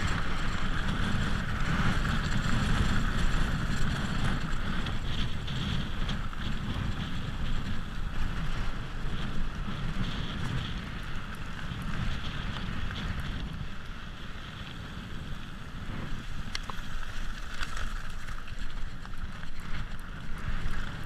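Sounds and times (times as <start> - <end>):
bike tyres crunching on gravel: 0.0 - 21.0
wind on microphone: 0.0 - 21.0.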